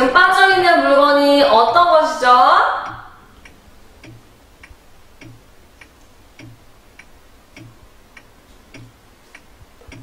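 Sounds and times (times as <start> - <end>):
clock ticking: 1.6 - 10.0.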